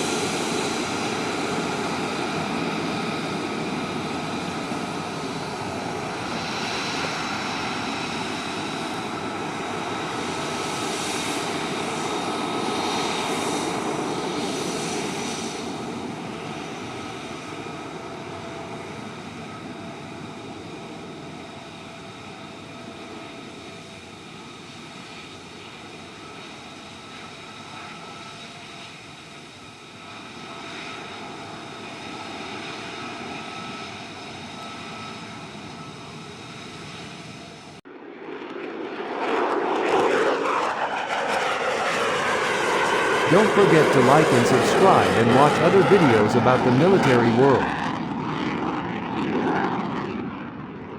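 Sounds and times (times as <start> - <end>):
jet engine rushing and whining: 0.0 - 50.9.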